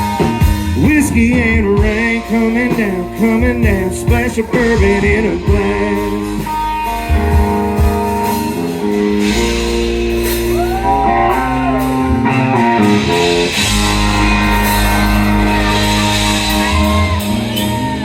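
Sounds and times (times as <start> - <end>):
electric guitar: 0.0 - 18.0
live country-rock band: 0.0 - 18.0.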